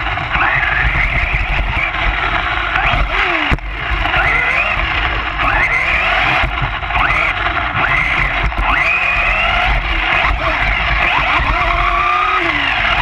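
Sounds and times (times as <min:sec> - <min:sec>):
electric motor whining: 0:00.0 - 0:13.0
low rumble: 0:00.0 - 0:13.0.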